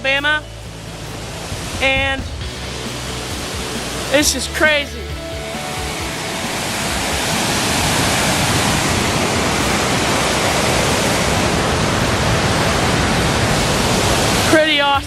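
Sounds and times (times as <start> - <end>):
waterfall rushing: 0.7 - 15.0.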